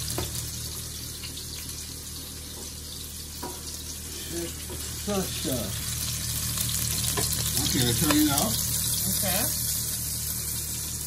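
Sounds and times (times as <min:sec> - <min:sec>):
food frying in oil: 0:00.0 - 0:11.0.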